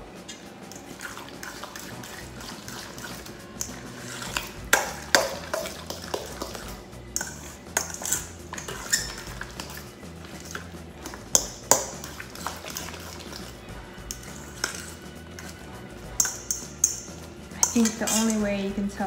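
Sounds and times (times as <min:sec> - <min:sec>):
utensil scraping metal bowl: 0:00.0 - 0:19.0
utensil clinking metal bowl: 0:00.2 - 0:19.0.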